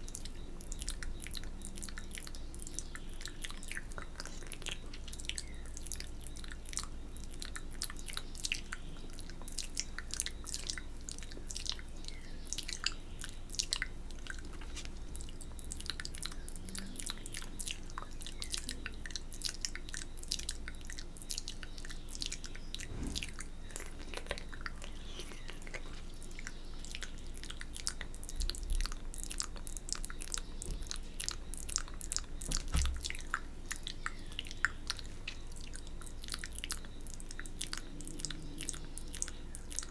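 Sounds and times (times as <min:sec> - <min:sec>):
lip smacks: 0:00.0 - 0:39.9
tongue clicks: 0:00.0 - 0:39.9.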